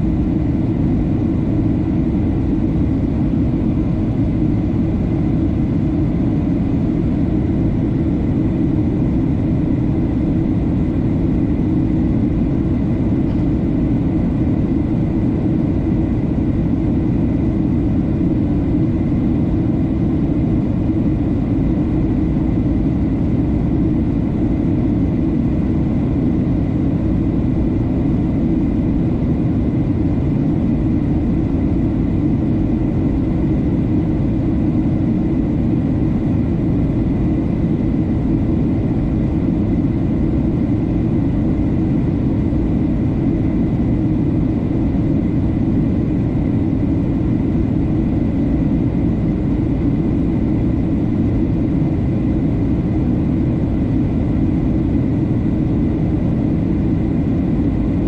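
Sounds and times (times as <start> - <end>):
jet engine roar in cabin: 0.0 - 58.0.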